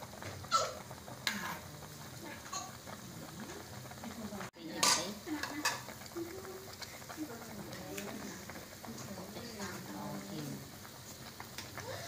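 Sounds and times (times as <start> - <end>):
soup bubbling in a pot: 0.0 - 12.0.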